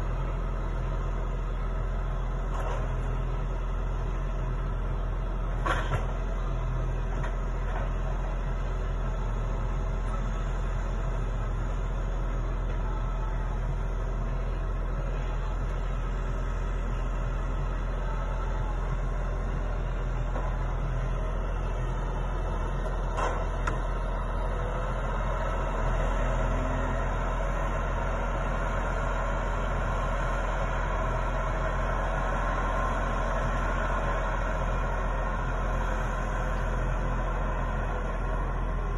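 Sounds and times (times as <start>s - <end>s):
diesel engine running: 0.0s - 38.9s
hydraulic crane working: 0.0s - 38.9s.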